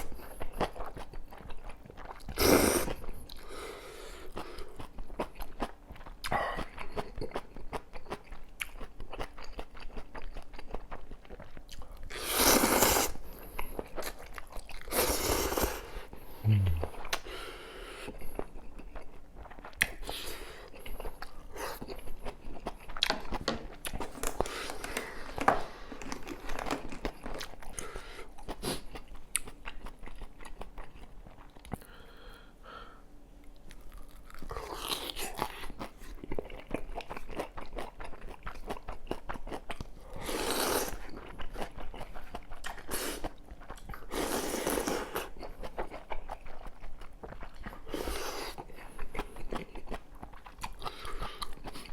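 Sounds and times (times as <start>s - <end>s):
chewing and crunching: 0.0s - 17.4s, 18.0s - 32.0s, 33.4s - 51.9s.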